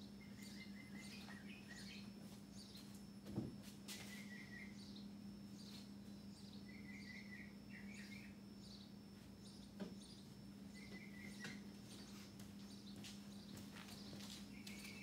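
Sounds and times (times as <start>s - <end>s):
faint bird chirps: 0.0s - 3.0s, 3.9s - 15.0s
steady low hum: 0.0s - 15.0s.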